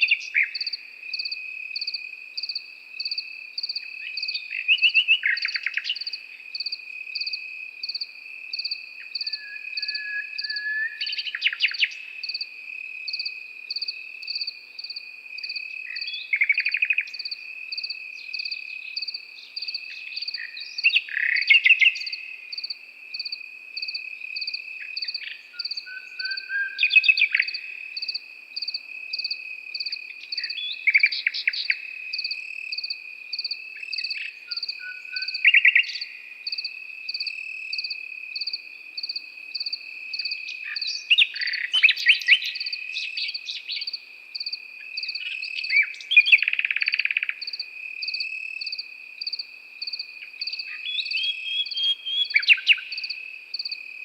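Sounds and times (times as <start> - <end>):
crickets chirping: 0.0 - 54.0
nightingale singing: 0.0 - 54.0.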